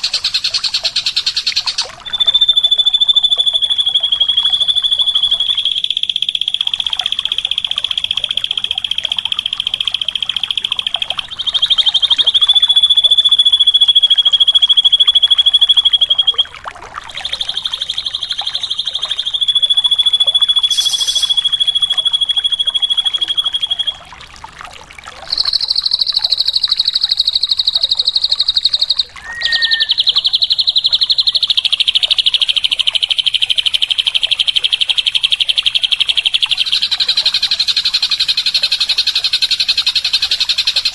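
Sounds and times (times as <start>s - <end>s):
bird buzzing trills: 0.0s - 24.4s, 25.2s - 40.9s.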